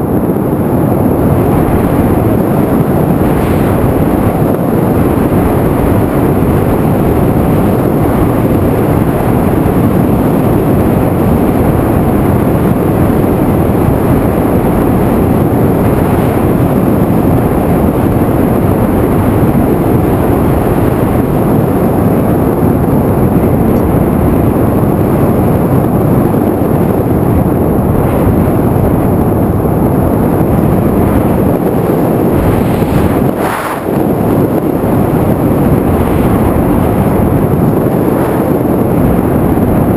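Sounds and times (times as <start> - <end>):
drone propeller noise: 0.0 - 39.9
wind rushing over microphone: 0.0 - 39.9.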